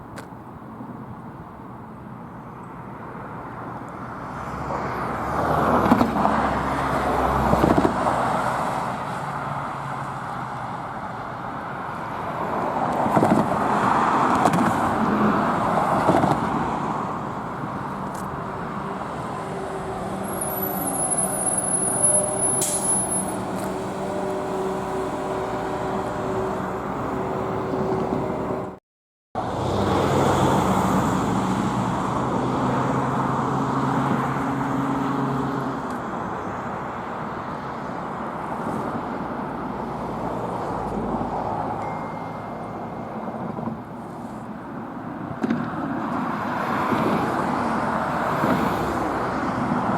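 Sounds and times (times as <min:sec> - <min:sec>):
car engine and tyre noise: 0:00.0 - 0:28.8, 0:29.4 - 0:49.9.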